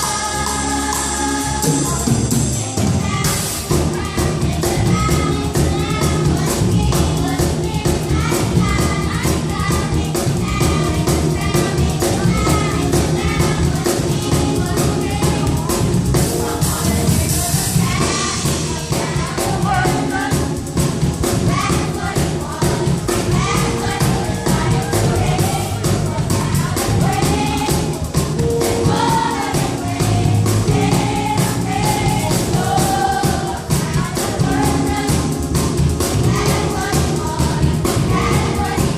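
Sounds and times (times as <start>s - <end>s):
choir singing gospel music: 0.0s - 38.9s
live band with drums and bass: 0.0s - 38.9s.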